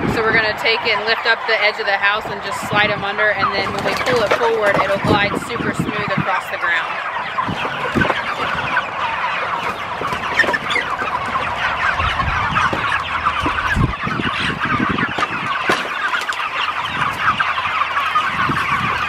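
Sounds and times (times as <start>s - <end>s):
chickens clucking and peeping: 0.0s - 19.0s.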